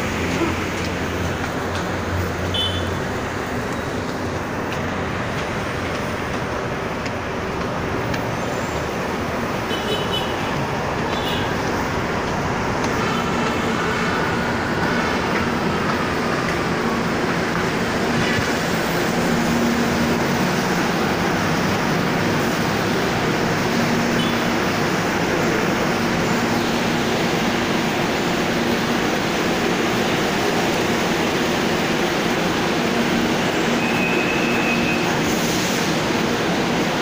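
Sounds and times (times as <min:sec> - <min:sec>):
train machinery running: 0:00.0 - 0:37.0.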